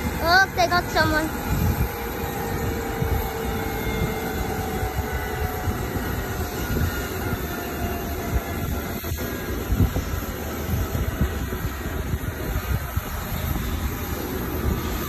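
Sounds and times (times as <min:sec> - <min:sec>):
helicopter engines whining: 0:00.0 - 0:15.0
helicopter rotors turning: 0:00.0 - 0:15.0.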